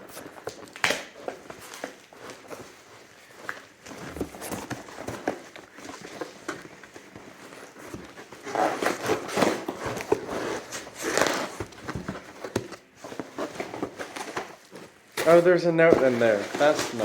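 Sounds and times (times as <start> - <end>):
box contents rustling and knocking: 0.0 - 17.0.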